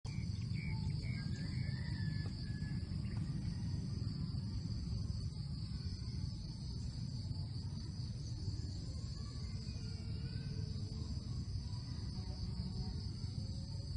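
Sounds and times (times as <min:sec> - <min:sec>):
high-pitched insect drone: 0:00.1 - 0:13.9
low rumble: 0:00.1 - 0:13.9.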